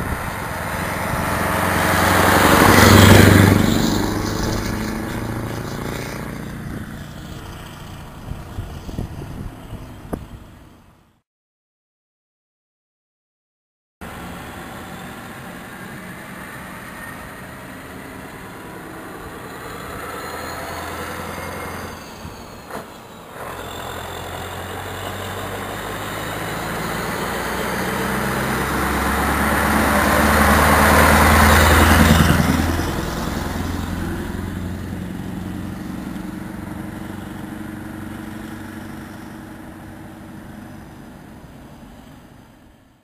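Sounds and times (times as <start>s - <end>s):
diesel truck driving past: 0.0s - 11.2s, 14.0s - 43.0s.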